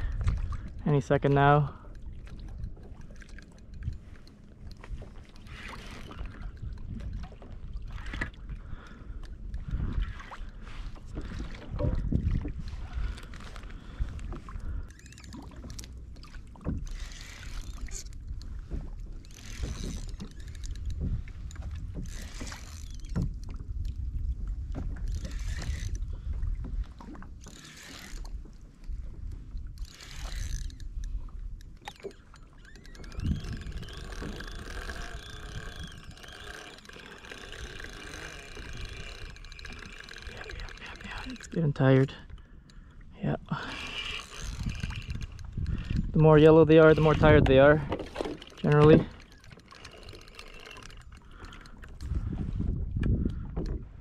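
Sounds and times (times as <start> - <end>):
fishing reel whirring: 0.0 - 24.0, 24.9 - 26.2, 27.4 - 28.6, 29.3 - 42.8, 43.4 - 52.4
wind rumbling on microphone: 0.0 - 42.4, 43.2 - 54.0
water sloshing against kayak hull: 0.0 - 54.0.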